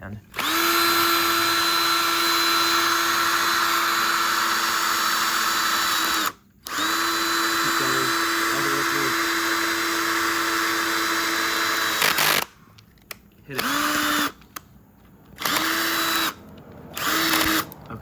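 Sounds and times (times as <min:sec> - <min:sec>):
cordless drill boring: 0:00.3 - 0:12.6, 0:13.5 - 0:14.4, 0:15.4 - 0:17.9.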